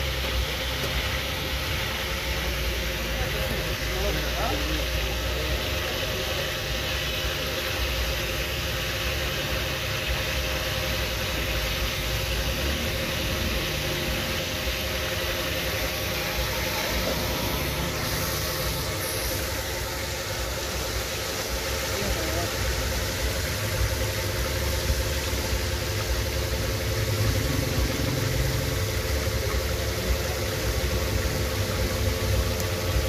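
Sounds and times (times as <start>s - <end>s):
constant hum: 0.0s - 33.0s
food deep-frying in oil: 0.0s - 33.0s.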